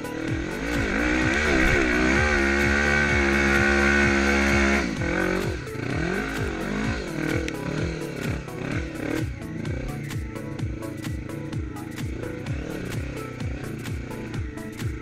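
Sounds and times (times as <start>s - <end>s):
music with thumping beat: 0.0s - 15.0s
quad engine revving: 0.0s - 15.0s.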